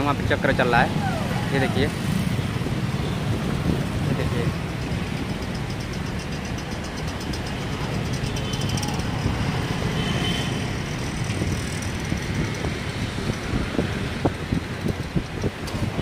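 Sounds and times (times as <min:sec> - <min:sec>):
traffic rumbling over bridge: 0:00.0 - 0:16.0.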